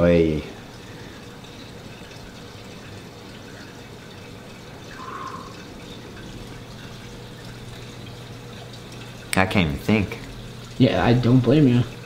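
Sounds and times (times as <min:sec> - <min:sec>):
room noise with low hum: 0:00.0 - 0:12.0.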